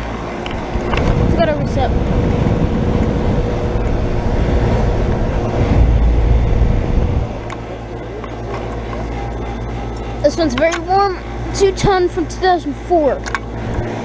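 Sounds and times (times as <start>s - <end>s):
heavy low rumble: 0.0s - 12.3s
heat pump fan and compressor hum: 0.0s - 14.0s.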